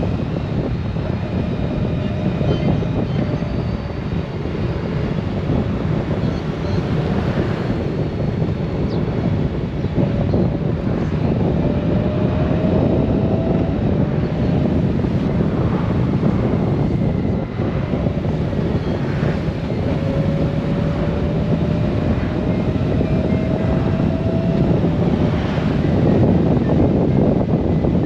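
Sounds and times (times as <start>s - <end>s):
faint rising whine: 0.0s - 28.0s
motorcycle engine running: 0.0s - 28.0s
rushing wind noise: 0.0s - 28.0s.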